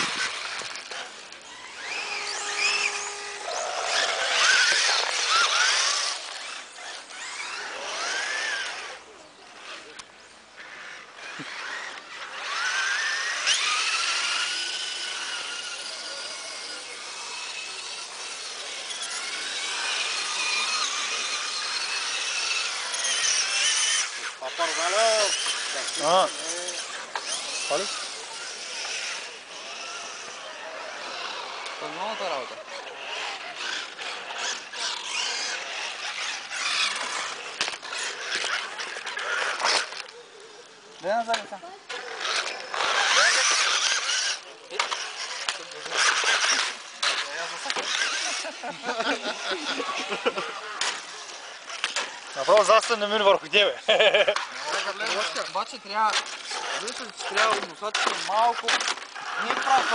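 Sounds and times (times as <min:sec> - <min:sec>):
toy truck motor whining: 0:00.0 - 0:59.9.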